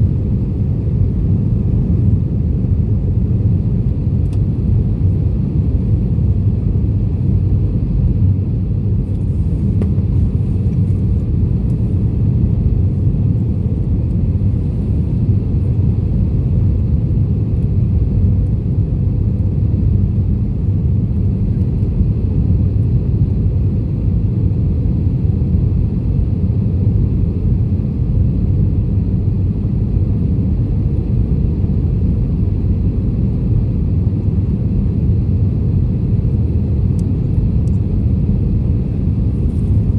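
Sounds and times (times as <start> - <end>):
airliner low rumble: 0.0 - 39.9.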